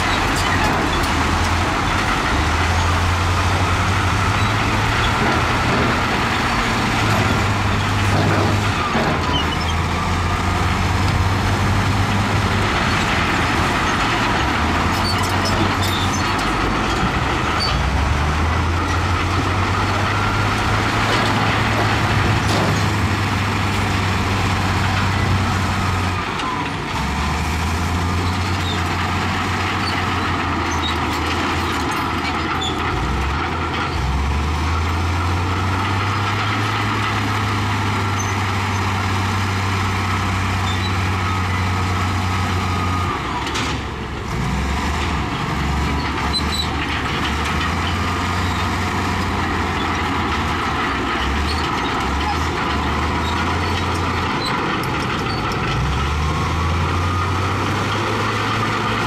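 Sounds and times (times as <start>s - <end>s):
heavy diesel machinery engine: 0.0s - 59.0s.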